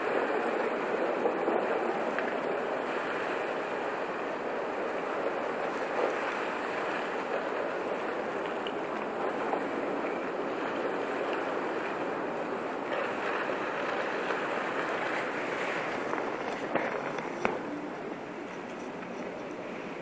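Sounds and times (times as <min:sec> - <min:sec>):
ice floes grinding on river: 0:00.0 - 0:20.0.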